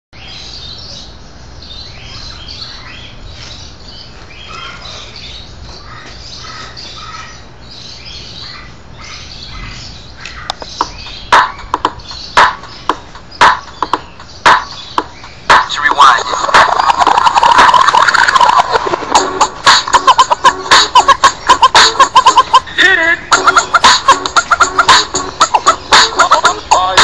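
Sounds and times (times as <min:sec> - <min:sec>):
birds chirping and squawking: 0:00.2 - 0:27.0.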